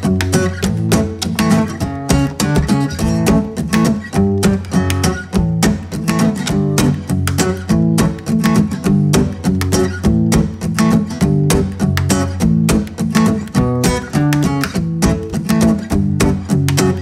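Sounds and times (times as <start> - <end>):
strummed guitar music with beat: 0.0 - 17.0.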